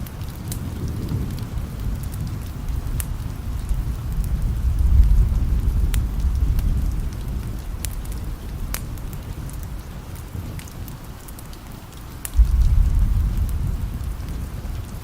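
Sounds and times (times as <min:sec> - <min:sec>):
steady rain: 0:00.0 - 0:15.0
wood fire crackling: 0:00.0 - 0:15.0
thunder rumbling: 0:00.4 - 0:11.0, 0:12.3 - 0:15.0.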